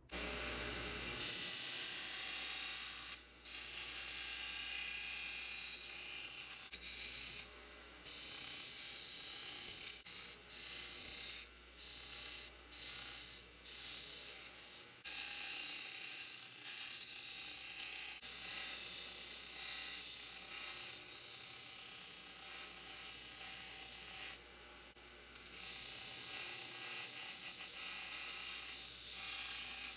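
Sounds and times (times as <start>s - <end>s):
power tool grinding steel: 0.0s - 24.4s, 25.3s - 29.9s.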